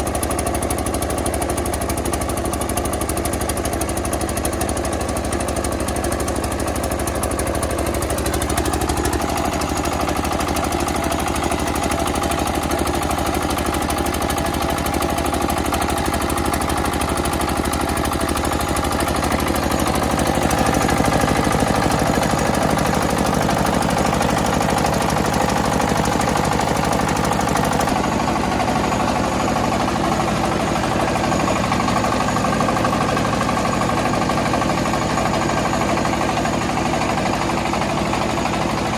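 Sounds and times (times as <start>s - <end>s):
rice milling machine running: 0.0s - 38.9s.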